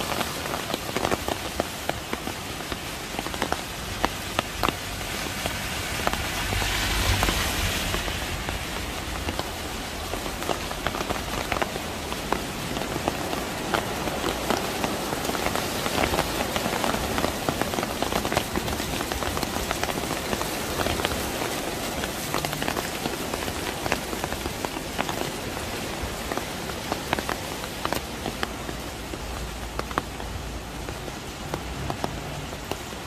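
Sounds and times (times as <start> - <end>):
rain falling on wet pavement: 0.0 - 33.0.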